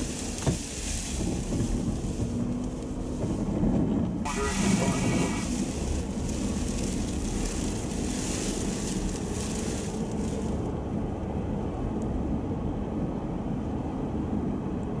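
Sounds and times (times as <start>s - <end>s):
vehicle rumble from inside cabin: 0.0s - 15.0s.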